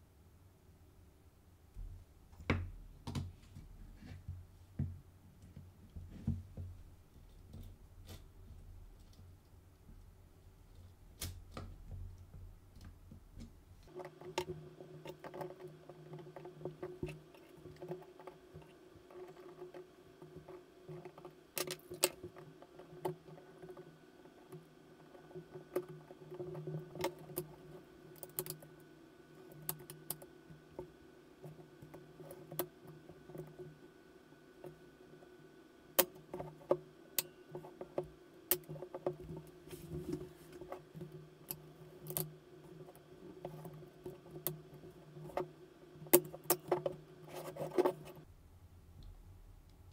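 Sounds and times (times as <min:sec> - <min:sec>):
faint steady hum: 0:00.0 - 0:49.9.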